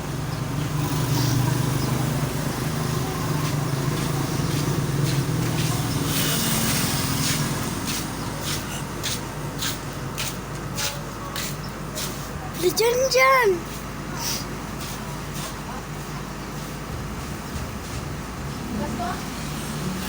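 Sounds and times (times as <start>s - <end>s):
heavy vehicle engine rumble: 0.0s - 20.0s.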